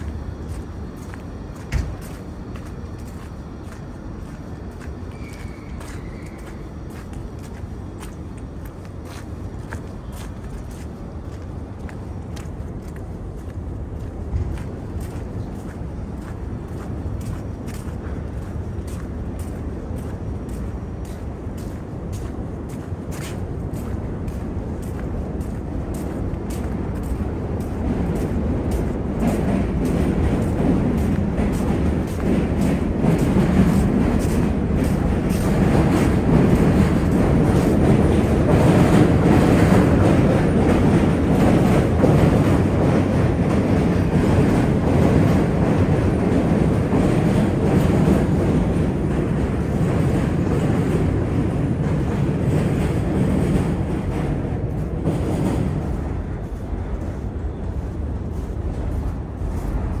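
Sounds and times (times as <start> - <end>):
train rumbling past: 0.0 - 60.0.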